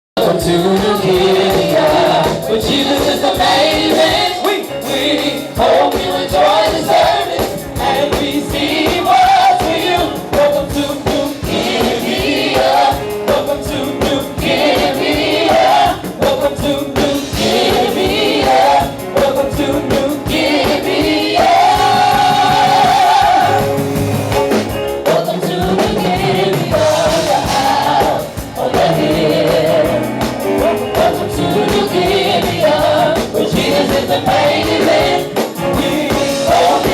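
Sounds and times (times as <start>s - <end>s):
gospel choir singing with band: 0.2s - 36.9s.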